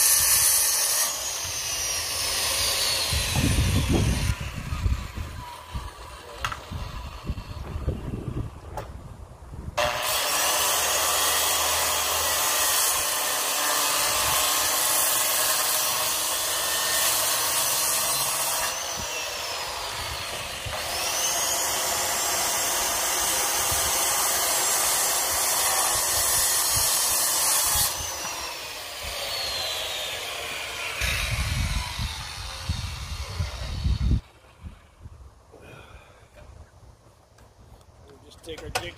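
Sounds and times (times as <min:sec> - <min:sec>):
circular saw cutting wood: 0:00.0 - 0:08.1, 0:09.8 - 0:34.7.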